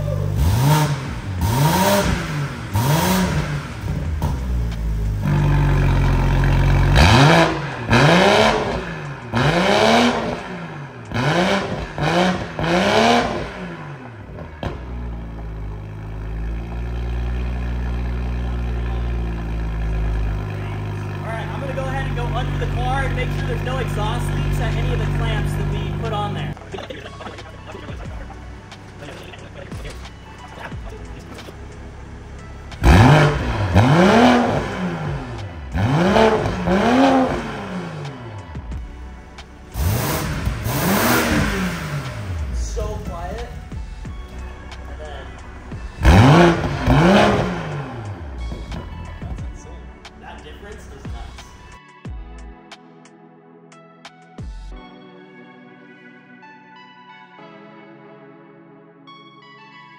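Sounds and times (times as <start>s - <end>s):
car engine idling: 0.0s - 51.8s
car engine revving: 0.0s - 51.8s.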